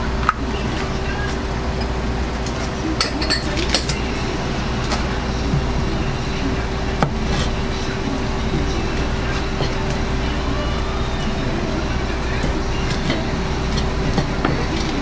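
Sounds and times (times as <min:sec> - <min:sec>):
kitchen hum: 0:00.0 - 0:15.0.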